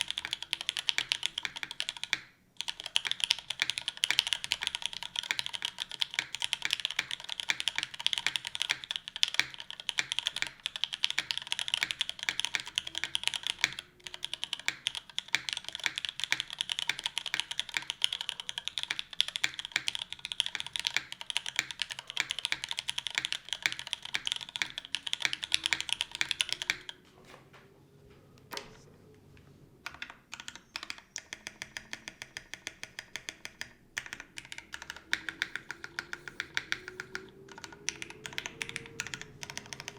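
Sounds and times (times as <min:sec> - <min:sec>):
fast typing on keyboard: 0:00.0 - 0:27.0, 0:29.8 - 0:39.9.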